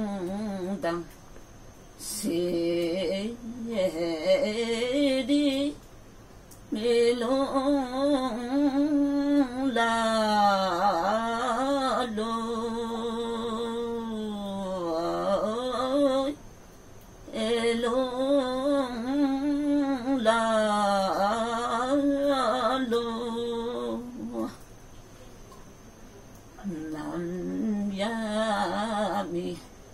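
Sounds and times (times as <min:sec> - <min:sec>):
woman singing held wavering notes: 0:00.0 - 0:01.1, 0:02.0 - 0:05.8, 0:06.7 - 0:16.4, 0:17.3 - 0:24.6, 0:26.6 - 0:29.9.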